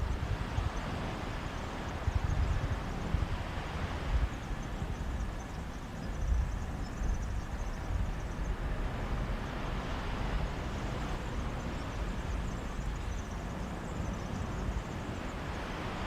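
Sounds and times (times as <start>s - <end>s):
sea surf on a beach: 0.0s - 16.0s
wind rumbling on microphone: 0.0s - 16.0s.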